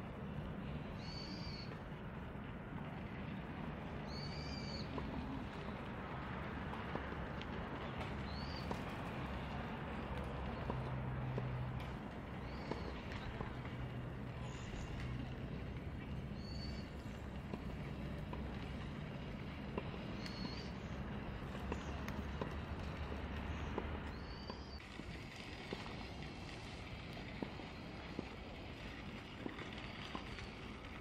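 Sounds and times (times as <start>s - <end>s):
fire crackling and popping: 0.0s - 31.0s
fire rushing in wood stove: 0.0s - 31.0s.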